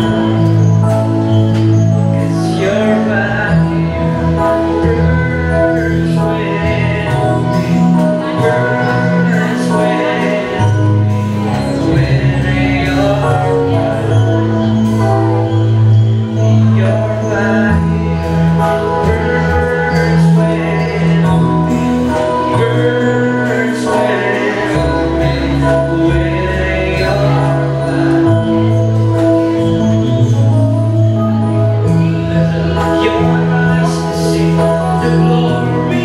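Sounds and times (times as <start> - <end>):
held chords with bass: 0.0 - 36.0
worship song singing: 0.0 - 36.0.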